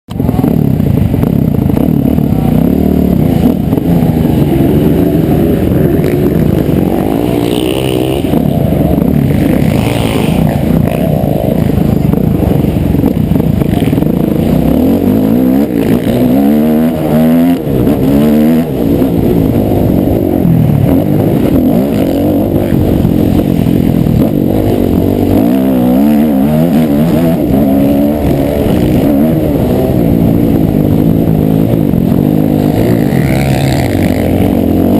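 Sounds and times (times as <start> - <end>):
motocross bike engine revving: 0.1 - 34.9.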